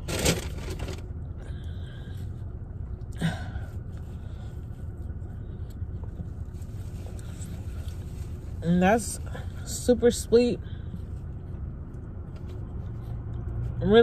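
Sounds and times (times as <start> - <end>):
low rumble inside a car: 0.0 - 14.0.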